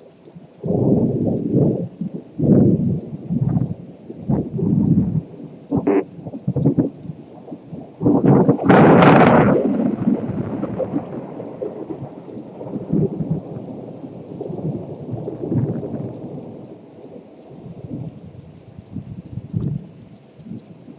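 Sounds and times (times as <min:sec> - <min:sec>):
thunder cracking and rumbling: 0:00.0 - 0:20.9.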